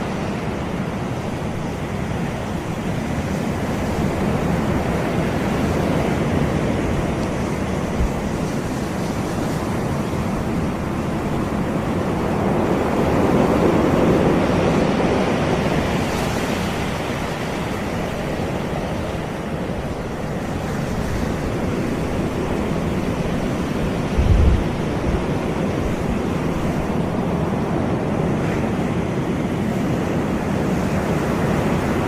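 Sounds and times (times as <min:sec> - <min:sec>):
waves washing onto beach: 0:00.0 - 0:32.0.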